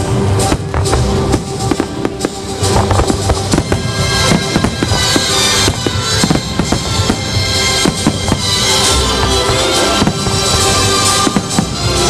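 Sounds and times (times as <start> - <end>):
fireworks bursting: 0.0 - 12.0
steady music: 0.0 - 12.0.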